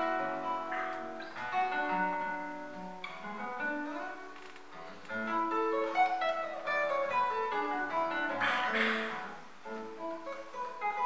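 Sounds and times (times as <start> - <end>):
classical guitar fingerstyle: 0.0 - 11.0.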